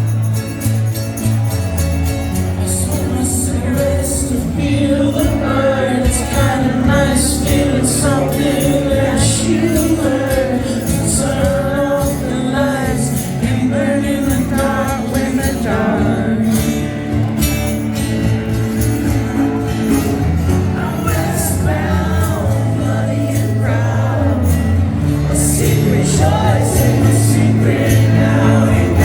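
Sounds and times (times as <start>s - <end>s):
jingling percussion: 0.0s - 29.0s
strummed acoustic guitar: 0.0s - 29.0s
person singing lead vocal: 2.6s - 17.8s, 19.3s - 29.0s.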